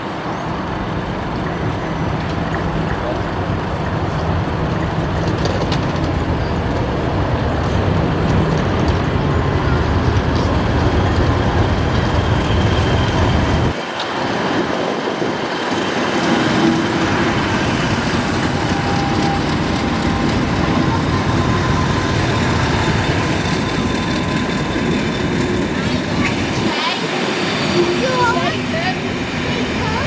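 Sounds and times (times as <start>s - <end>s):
diesel train deep rumble: 0.0s - 30.0s.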